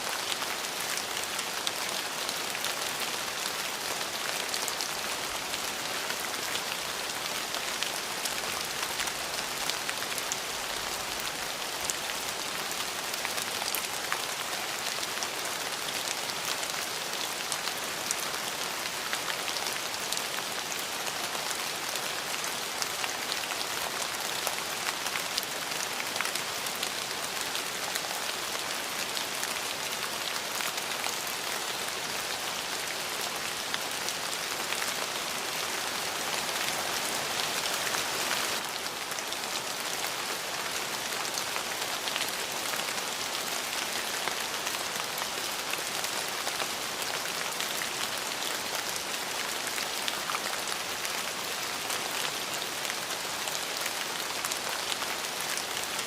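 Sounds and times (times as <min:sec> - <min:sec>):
steady rain with drop ticks: 0:00.0 - 0:56.0.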